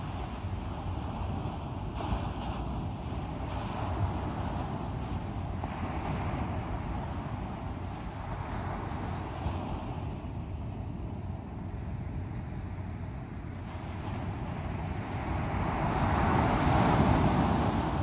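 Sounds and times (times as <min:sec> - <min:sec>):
sea waves on shore: 0:00.0 - 0:18.0.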